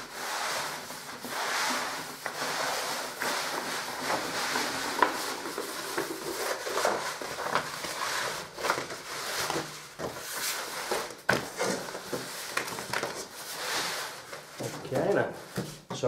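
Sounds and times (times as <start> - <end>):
paper rustling: 0.4 - 15.9.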